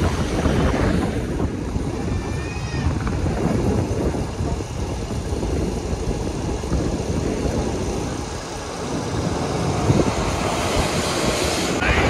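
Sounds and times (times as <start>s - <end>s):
passenger train rumble: 0.0s - 12.0s.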